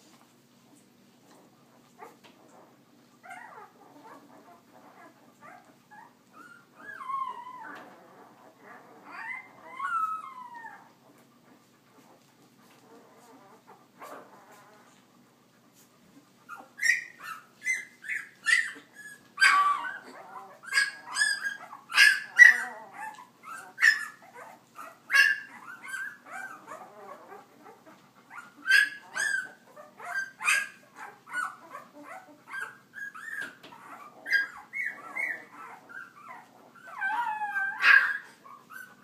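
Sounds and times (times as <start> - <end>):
puppies whimpering: 1.3 - 39.0
puppies squealing: 2.0 - 11.1, 16.5 - 39.0.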